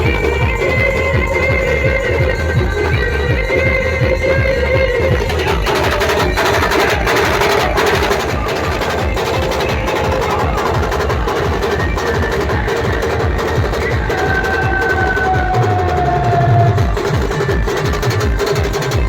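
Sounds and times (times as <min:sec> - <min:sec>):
fast driving drums: 0:00.0 - 0:19.0.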